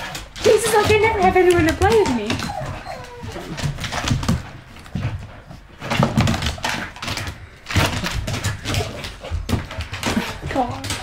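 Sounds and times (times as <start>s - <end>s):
dogs thudding and bumping: 0.0s - 11.0s
paws scrabbling on wooden floor: 0.0s - 11.0s.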